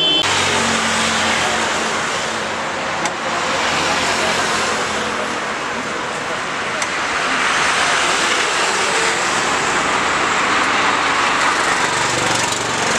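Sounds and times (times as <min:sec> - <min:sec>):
roadside traffic noise: 0:00.0 - 0:12.9.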